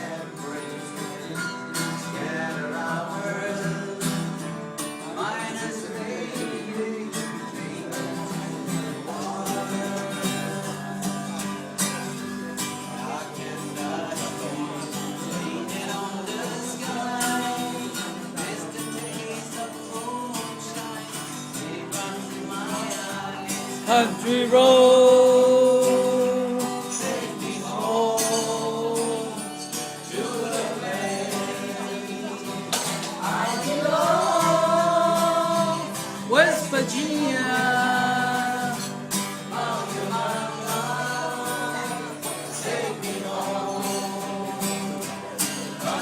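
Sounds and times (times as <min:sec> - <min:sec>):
acoustic guitar strummed: 0:00.0 - 0:46.0
person singing: 0:00.0 - 0:46.0.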